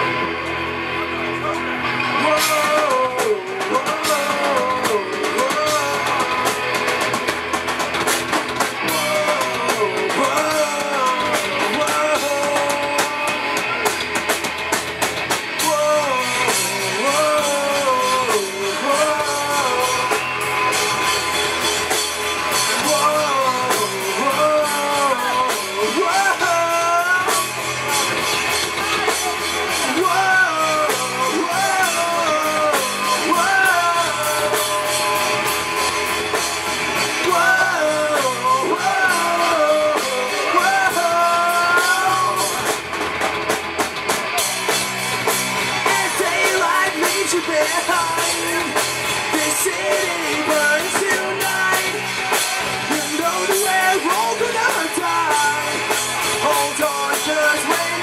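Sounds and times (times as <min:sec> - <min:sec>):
bass guitar: 0:00.0 - 0:58.0
drum kit: 0:00.0 - 0:58.0
electric guitars: 0:00.0 - 0:58.0
man singing: 0:01.4 - 0:07.3, 0:08.7 - 0:14.0, 0:15.4 - 0:21.1, 0:22.4 - 0:35.7, 0:36.3 - 0:42.8, 0:45.2 - 0:58.0.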